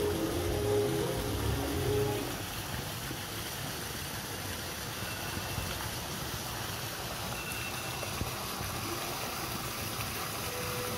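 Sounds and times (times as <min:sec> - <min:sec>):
water pouring into pool: 0:00.0 - 0:10.9.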